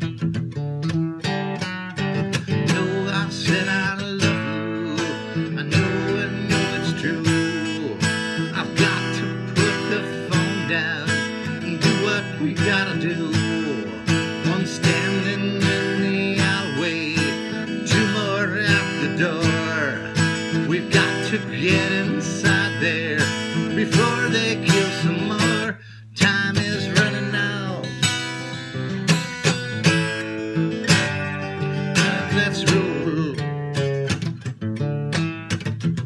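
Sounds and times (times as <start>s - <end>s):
acoustic guitar strumming: 0.0s - 36.0s
man singing: 2.2s - 34.2s.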